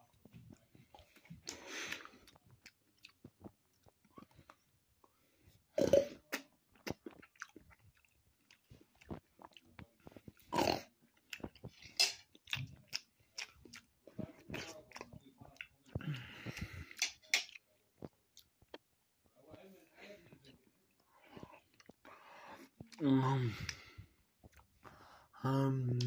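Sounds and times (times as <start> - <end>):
person chewing melon: 0.0 - 18.9, 20.6 - 25.0.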